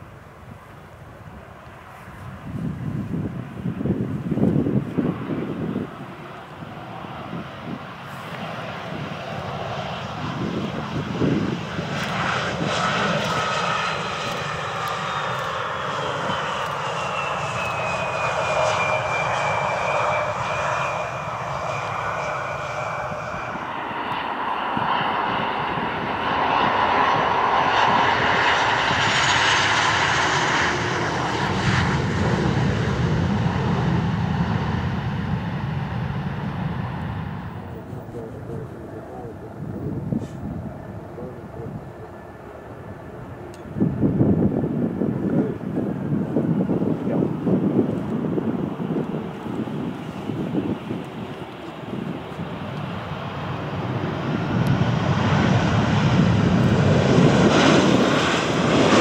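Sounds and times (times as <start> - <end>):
jet engines rumbling and whining: 0.0 - 59.0
louder jet engines on runway: 0.0 - 59.0.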